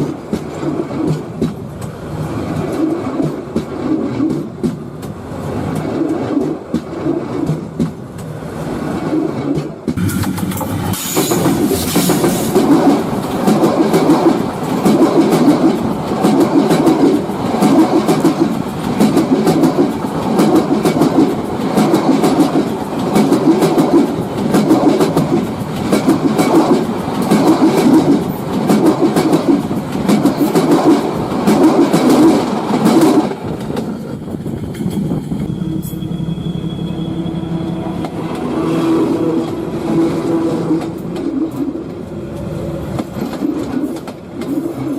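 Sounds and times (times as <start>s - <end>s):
train wheels clattering over rail joints: 0.0s - 35.5s, 40.6s - 44.9s.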